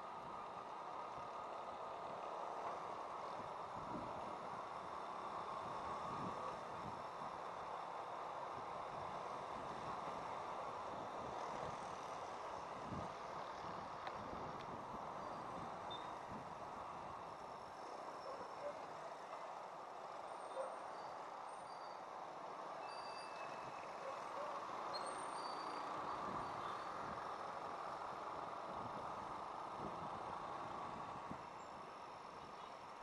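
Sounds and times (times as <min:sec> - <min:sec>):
surrounding traffic: 0:00.0 - 0:33.0.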